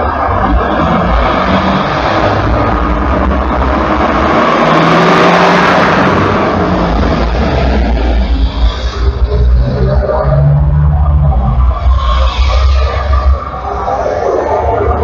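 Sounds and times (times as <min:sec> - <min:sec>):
heavy highway traffic: 0:00.0 - 0:15.0
truck passing: 0:00.0 - 0:15.0.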